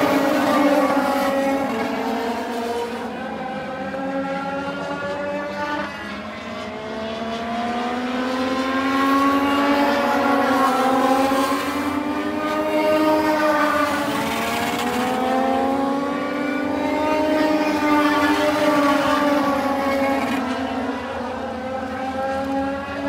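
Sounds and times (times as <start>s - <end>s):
race car engines at high revs: 0.0s - 23.0s.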